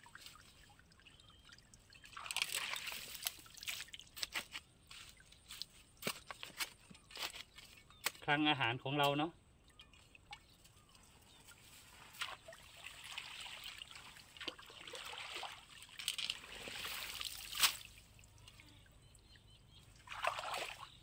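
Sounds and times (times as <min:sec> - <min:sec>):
water sloshing and trickling: 0:00.0 - 0:08.2, 0:08.9 - 0:21.0.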